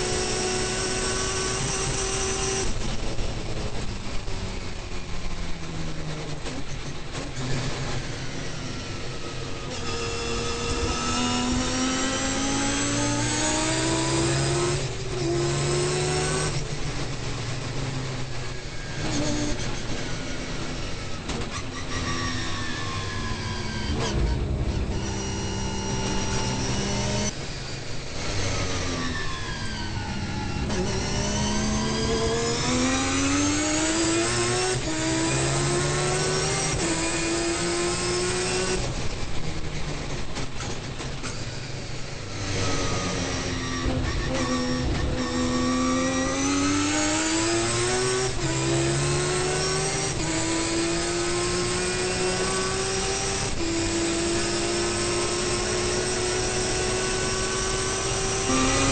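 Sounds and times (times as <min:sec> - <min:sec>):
race car rotary engine revving: 0:00.0 - 0:04.9, 0:05.8 - 0:58.9.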